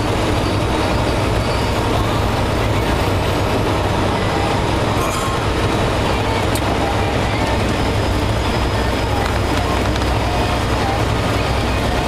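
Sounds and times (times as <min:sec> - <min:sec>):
tire and road noise: 0:00.0 - 0:12.0
truck diesel engine drone: 0:00.0 - 0:12.0.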